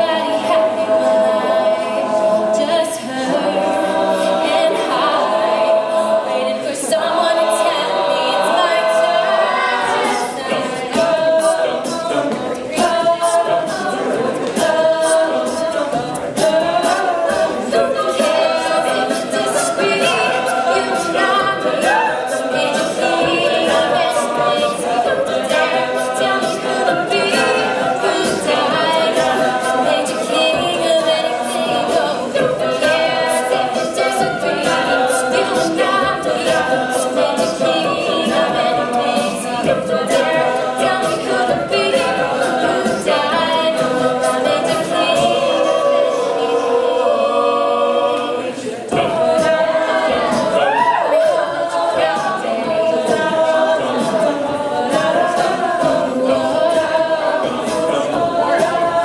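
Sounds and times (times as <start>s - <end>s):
female soloist singing: 0.0s - 59.0s
group singing backing harmonies: 0.0s - 59.0s.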